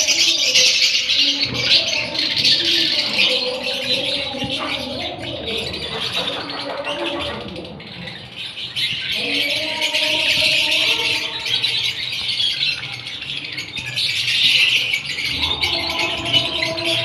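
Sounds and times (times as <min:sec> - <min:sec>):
lovebirds chattering: 0:00.0 - 0:17.0.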